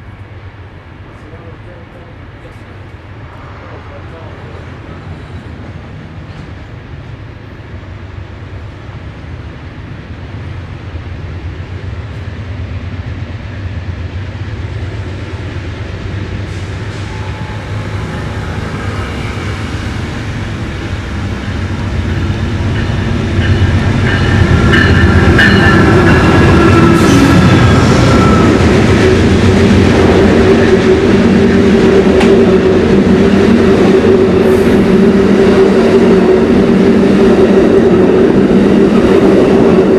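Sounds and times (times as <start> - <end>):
diesel train passing: 0.0 - 39.9.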